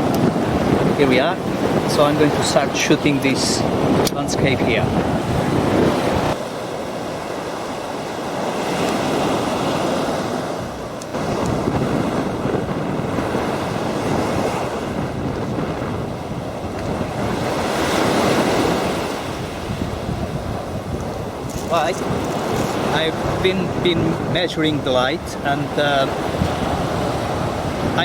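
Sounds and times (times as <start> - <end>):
sea surf washing on shore: 0.0 - 28.0
wind rumbling on microphone: 0.0 - 28.0.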